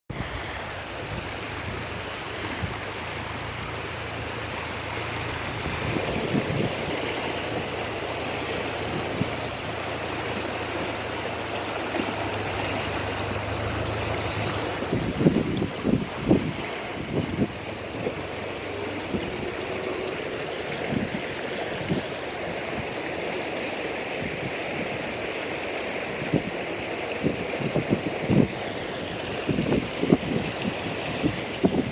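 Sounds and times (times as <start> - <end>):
rain and running water: 0.1 - 31.9.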